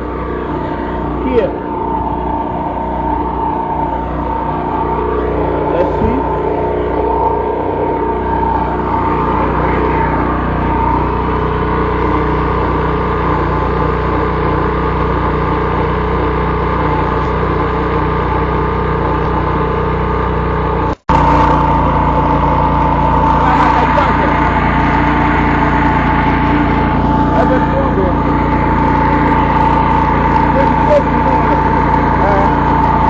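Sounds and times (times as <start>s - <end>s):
generator engine running: 0.0s - 33.0s.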